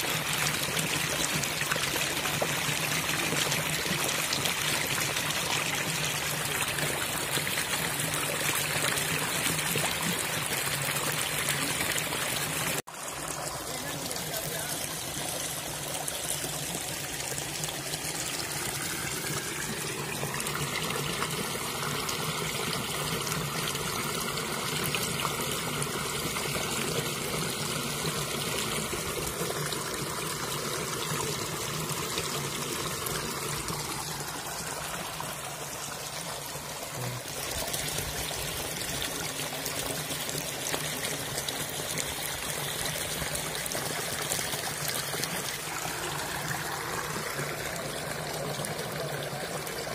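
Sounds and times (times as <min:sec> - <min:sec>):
stream water splashing over rocks: 0:00.0 - 0:49.9.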